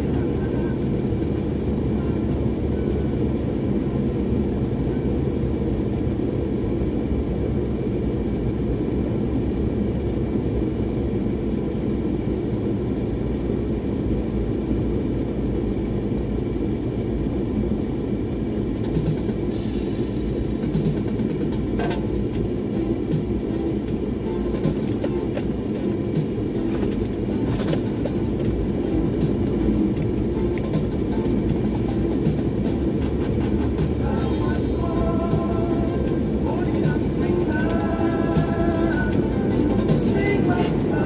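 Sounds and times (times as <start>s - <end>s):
vehicle driving on road: 0.0s - 41.0s.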